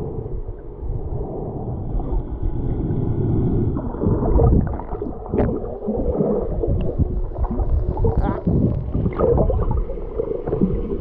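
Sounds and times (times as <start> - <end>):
muffled underwater rumbling: 0.0 - 11.0.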